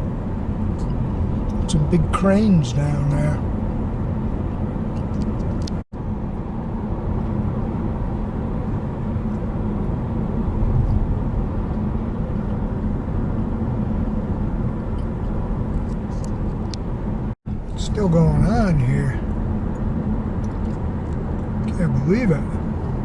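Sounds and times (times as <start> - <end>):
car road noise from inside: 0.0 - 23.0.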